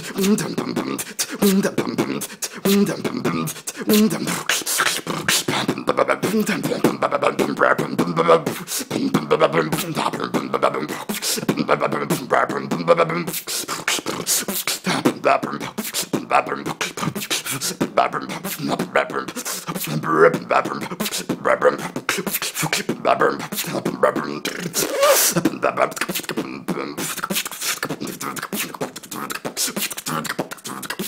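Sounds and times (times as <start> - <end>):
person beatboxing: 0.0 - 31.0.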